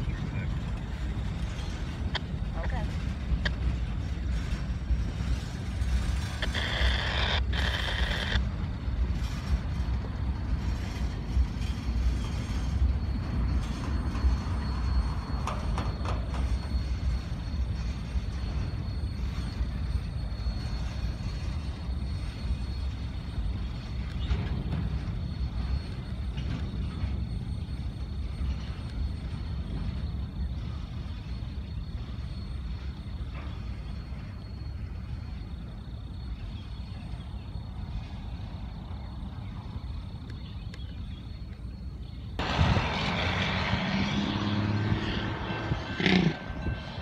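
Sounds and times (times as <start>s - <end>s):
high wheel squeal: 0.0s - 47.0s
train wheels rumbling on rails: 0.0s - 47.0s.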